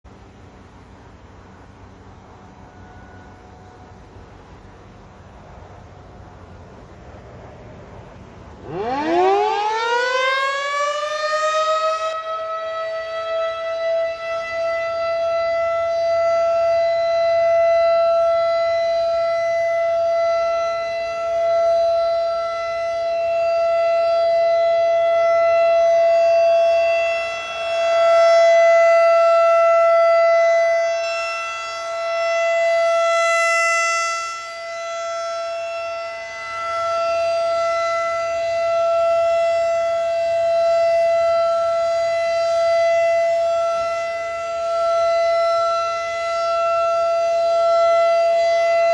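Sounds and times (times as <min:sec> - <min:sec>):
outdoor warning siren steady tone: 0:00.0 - 0:48.9.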